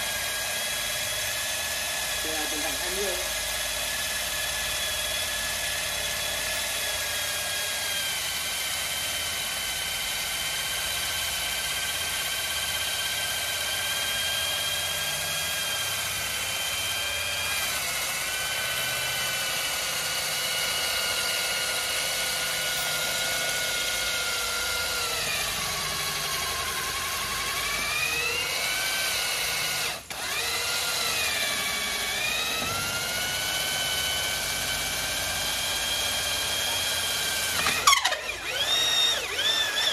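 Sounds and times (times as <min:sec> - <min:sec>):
core drill motor whine: 0:00.0 - 0:39.9.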